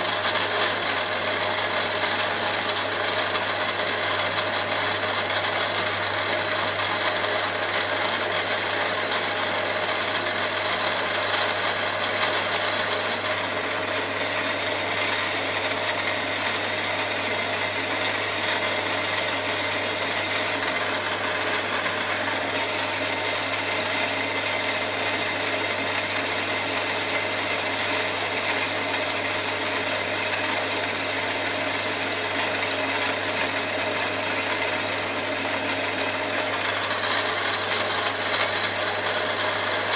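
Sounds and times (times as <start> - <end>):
milling machine cutting aluminium: 0.0 - 39.9.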